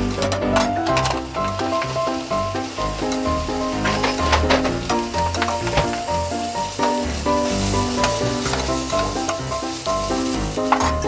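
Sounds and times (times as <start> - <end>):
background music: 0.0 - 11.0
food sizzling in a frying pan: 1.0 - 11.0.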